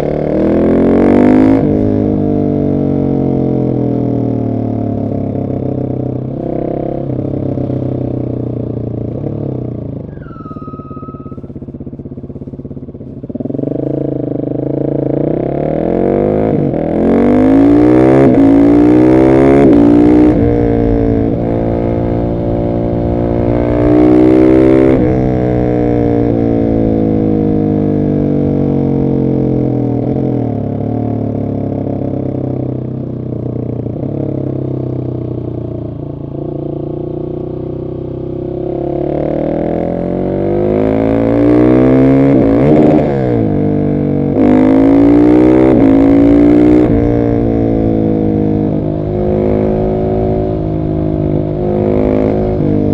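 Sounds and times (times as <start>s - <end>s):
motorcycle engine revving hard: 0.0s - 11.9s, 13.2s - 32.7s, 36.6s - 52.9s.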